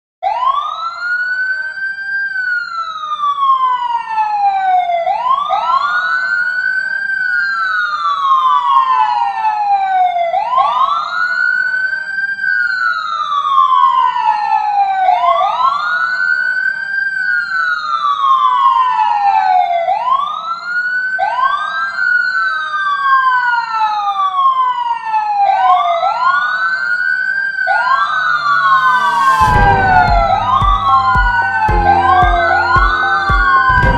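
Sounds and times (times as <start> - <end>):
electronic wailing siren: 0.2 - 33.9.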